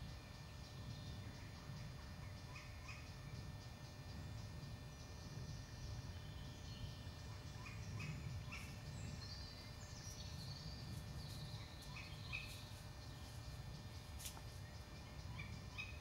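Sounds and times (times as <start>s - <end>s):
birds singing: 0.0s - 16.0s
low steady rumble: 0.0s - 16.0s.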